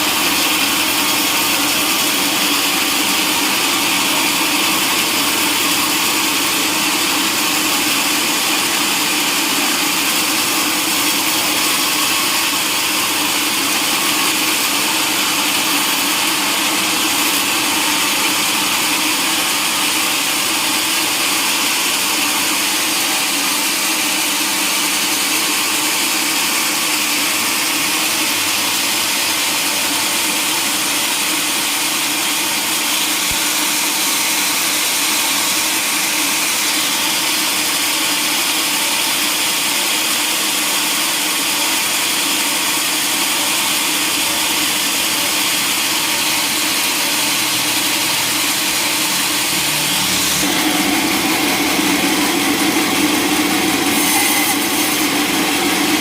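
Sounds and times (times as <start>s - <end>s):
saw cutting through log: 0.0s - 56.0s.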